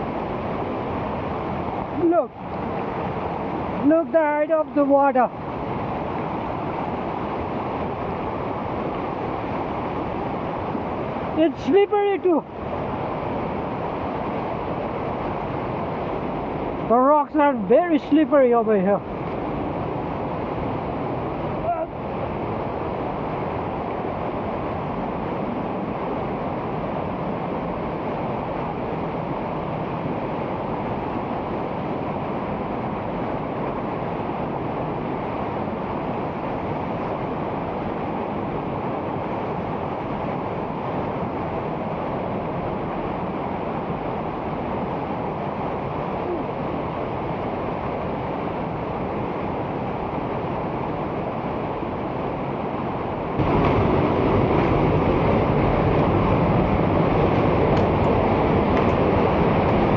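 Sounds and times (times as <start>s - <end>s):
river rushing: 0.0s - 59.9s.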